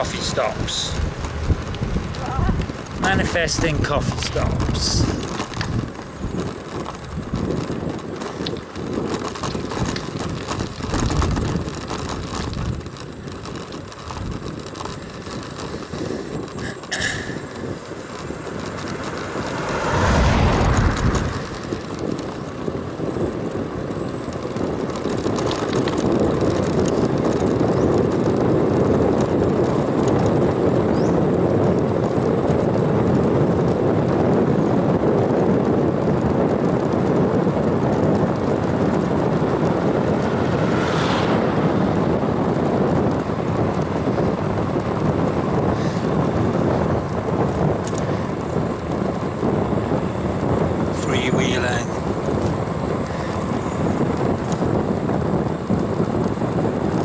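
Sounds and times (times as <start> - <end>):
bicycle tyre noise on road: 0.0 - 57.0
wind rushing over microphone: 0.0 - 57.0.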